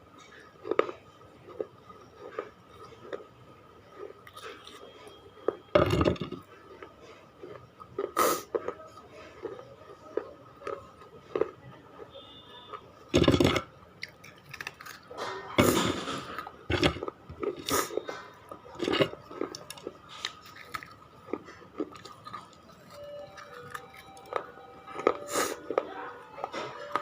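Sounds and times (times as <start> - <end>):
crunchy chewing: 0.2 - 27.0.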